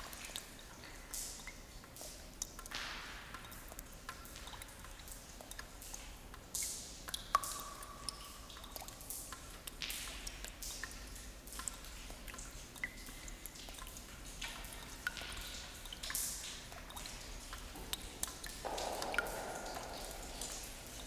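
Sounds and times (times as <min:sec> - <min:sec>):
water drops dripping with echo: 0:00.0 - 0:21.0.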